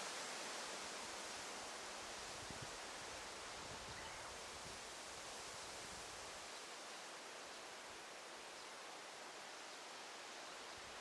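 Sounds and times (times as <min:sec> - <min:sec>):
leaves rustling in wind: 0:00.0 - 0:11.0.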